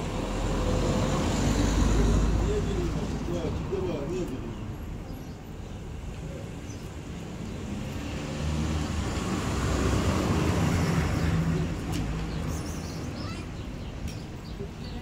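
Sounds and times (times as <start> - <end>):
passing vehicle engine rumble: 0.0 - 5.2, 5.9 - 15.0.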